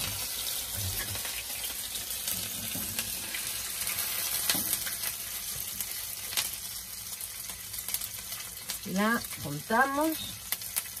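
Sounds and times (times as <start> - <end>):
patty frying in hot oil: 0.0 - 11.0.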